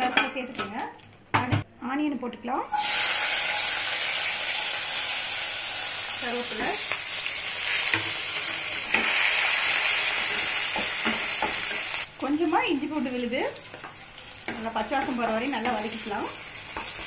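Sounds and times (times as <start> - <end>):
food sizzling in hot oil: 2.7 - 17.0.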